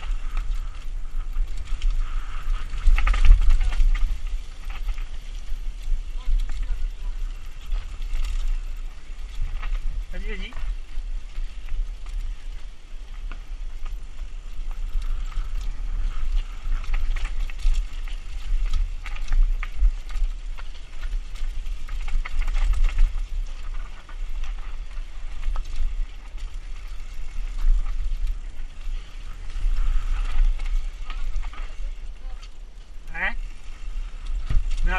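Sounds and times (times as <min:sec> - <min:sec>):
bike rattling over stones: 0:00.0 - 0:34.9
wind rumble on microphone: 0:00.0 - 0:34.9.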